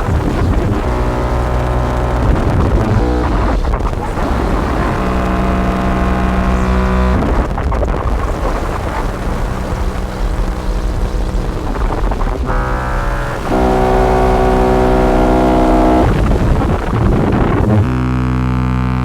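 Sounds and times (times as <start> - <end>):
buzzing pitched tone: 0.0 - 18.2
distorted synthesizer drone: 0.0 - 19.0.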